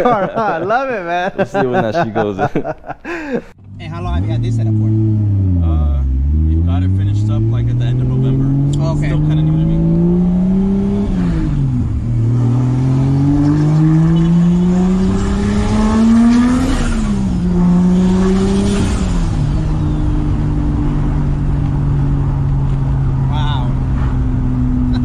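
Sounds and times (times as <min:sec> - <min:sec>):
car engine accelerating: 0:03.6 - 0:25.0.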